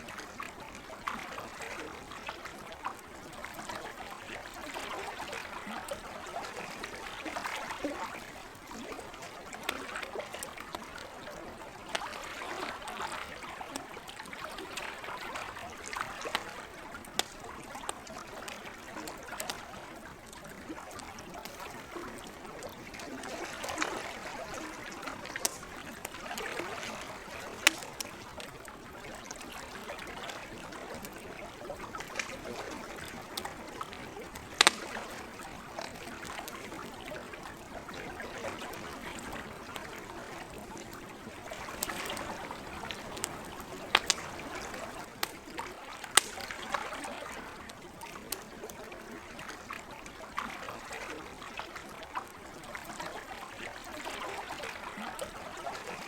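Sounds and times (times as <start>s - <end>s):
lake water lapping: 0.0s - 56.0s
campfire crackling and popping: 1.0s - 49.2s.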